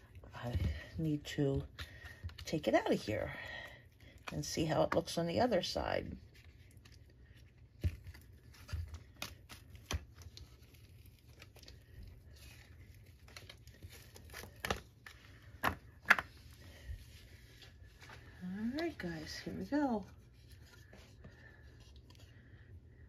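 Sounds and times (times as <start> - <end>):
silicone mold peeling and crinkling: 0.0 - 22.8.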